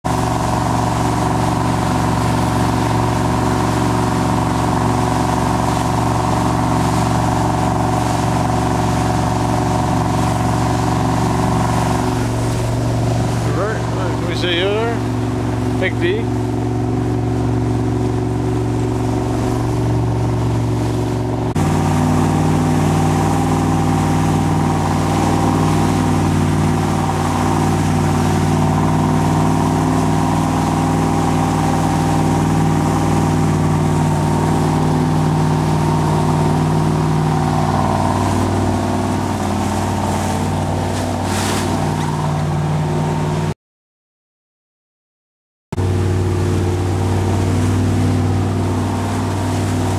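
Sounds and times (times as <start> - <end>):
motorboat engine running: 0.0 - 43.6, 45.8 - 49.9.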